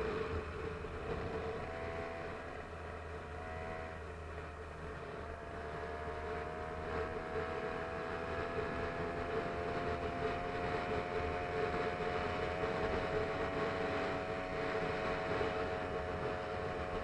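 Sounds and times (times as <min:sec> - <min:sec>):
small engine droning: 0:00.0 - 0:17.0.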